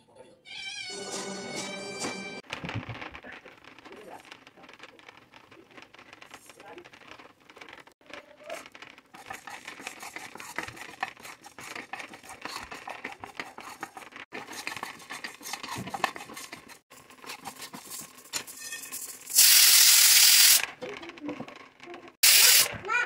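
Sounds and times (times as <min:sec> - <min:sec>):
seeds rattling in a frying pan: 0:02.4 - 0:23.0.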